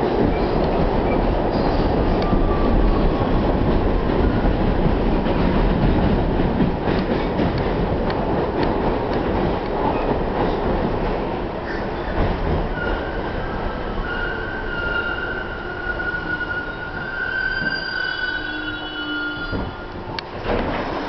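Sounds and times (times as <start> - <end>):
subway wheels on rails: 0.0 - 21.0.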